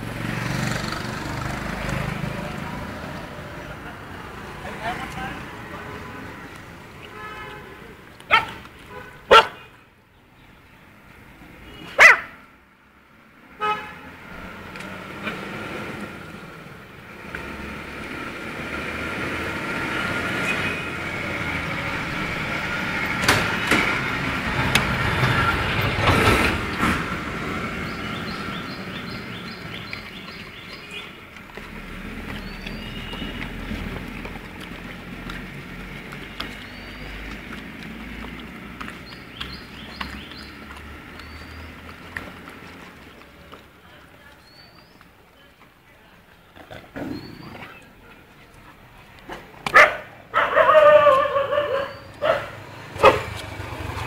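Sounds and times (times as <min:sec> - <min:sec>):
traffic passing: 0:00.0 - 0:54.0.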